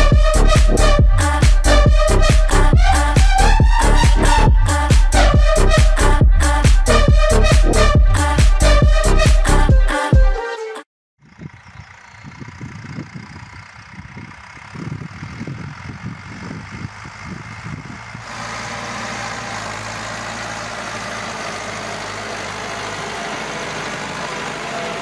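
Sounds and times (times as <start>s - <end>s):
tractor diesel engine drone: 0.0s - 9.7s, 11.3s - 25.0s.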